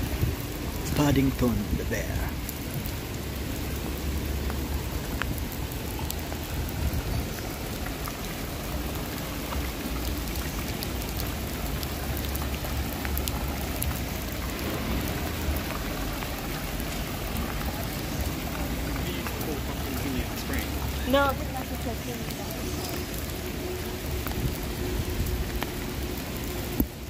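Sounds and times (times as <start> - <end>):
low rumble: 0.0 - 26.6
rain on wet paving: 0.0 - 27.0.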